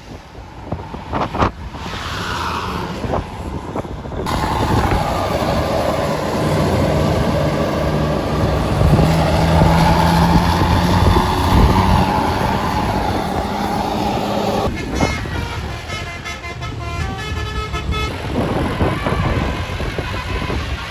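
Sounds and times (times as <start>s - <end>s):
road noise: 0.0s - 20.9s
bus engine running: 3.6s - 20.9s.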